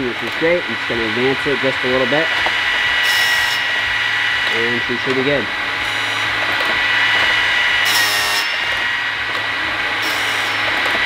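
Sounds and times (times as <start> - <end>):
grinding wheel motor whining: 0.0 - 11.0.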